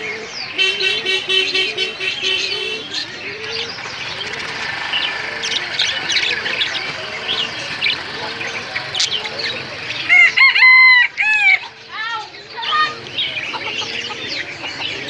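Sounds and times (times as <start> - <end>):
low wavering cooing: 0.0 - 10.4, 12.4 - 15.0
caged birds chirping: 0.0 - 15.0.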